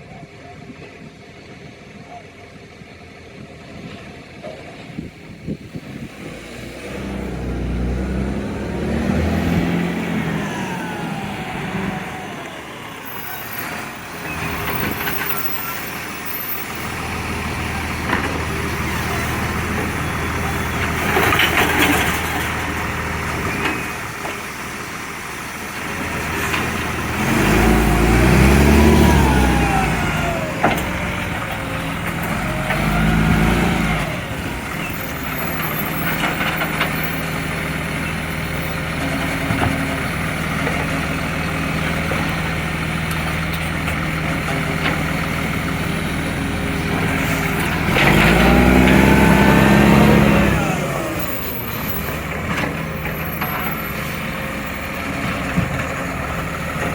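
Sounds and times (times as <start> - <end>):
diesel engine idling and revving: 0.0 - 56.9.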